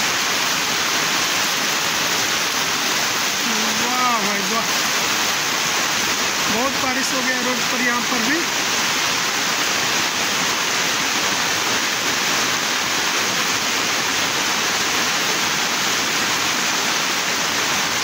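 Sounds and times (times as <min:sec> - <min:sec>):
heavy rain pouring on road: 0:00.0 - 0:18.0.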